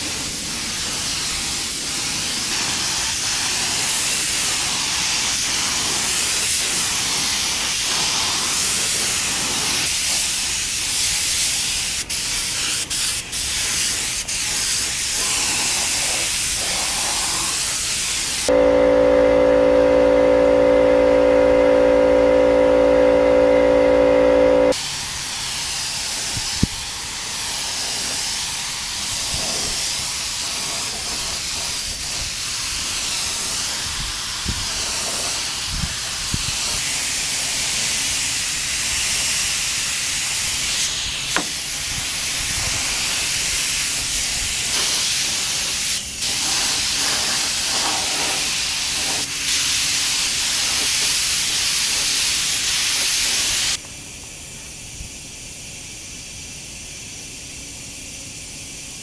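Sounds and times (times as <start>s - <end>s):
paint spray gun hissing: 0.0s - 20.7s, 22.3s - 59.0s.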